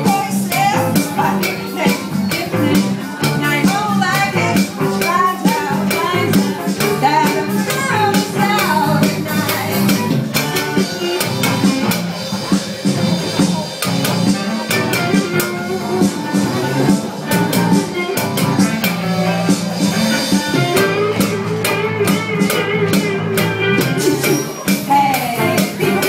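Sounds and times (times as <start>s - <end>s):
drums and shaker percussion: 0.0s - 26.0s.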